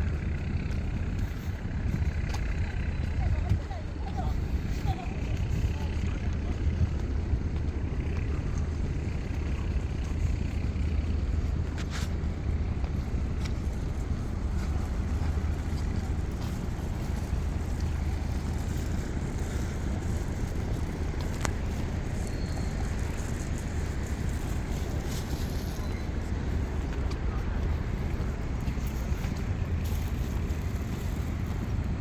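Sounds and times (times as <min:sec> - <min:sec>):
distant engine drone: 0:00.0 - 0:32.0
low city rumble: 0:00.0 - 0:32.0.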